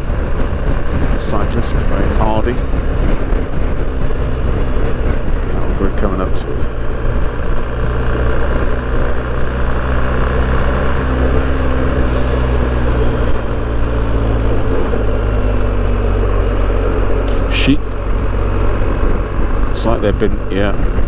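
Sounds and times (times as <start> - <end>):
motorcycle engine cruising: 0.0 - 21.0
wind and road noise: 0.0 - 21.0.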